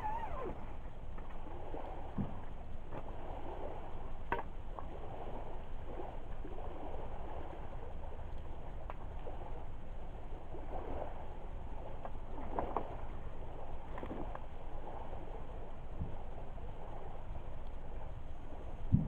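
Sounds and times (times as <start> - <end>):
lake water lapping at shore: 0.0 - 19.0.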